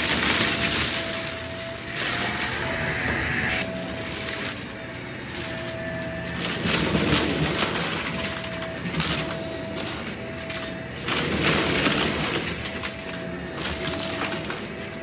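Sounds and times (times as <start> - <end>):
shells crunching and rattling: 0.0 - 3.0, 3.6 - 15.0
vacuum motor whine: 0.0 - 15.0.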